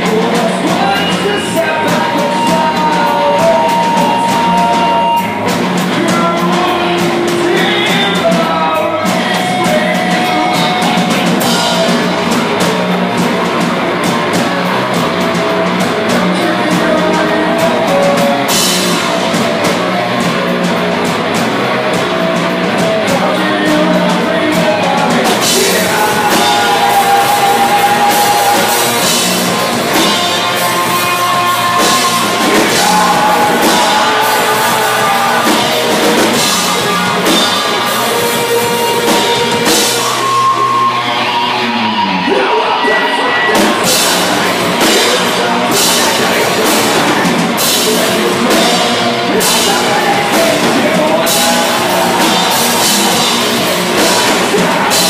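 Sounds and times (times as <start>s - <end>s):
person singing: 0.0s - 55.0s
rock band playing: 0.0s - 55.0s.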